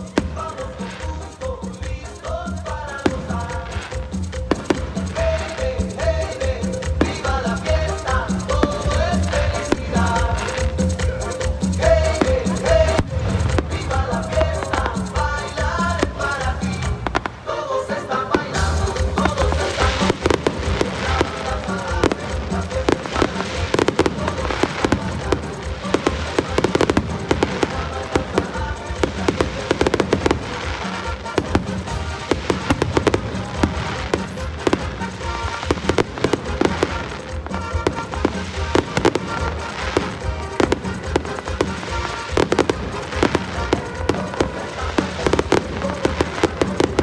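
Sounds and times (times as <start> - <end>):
fireworks bangs and crackles: 0.0 - 17.6, 18.2 - 47.0
music over sound system: 0.0 - 47.0.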